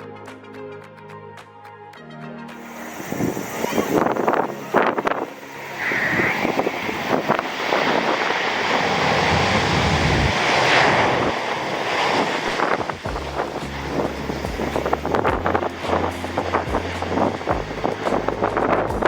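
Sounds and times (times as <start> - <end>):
jet engine roar: 2.6 - 19.0
wind buffeting microphone: 3.0 - 19.0.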